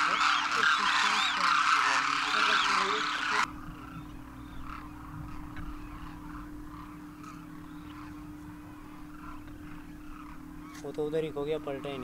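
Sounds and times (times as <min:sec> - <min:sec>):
crane flock calling: 0:00.0 - 0:12.0
steady low hum: 0:00.0 - 0:12.0.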